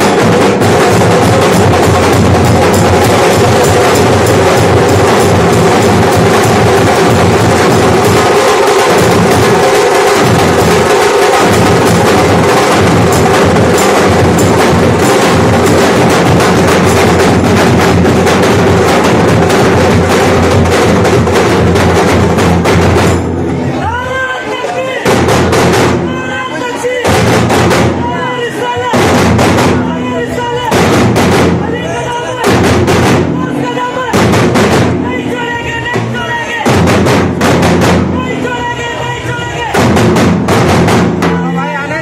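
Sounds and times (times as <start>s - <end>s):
barrel drums beaten fast: 0.0s - 24.3s, 24.9s - 42.0s.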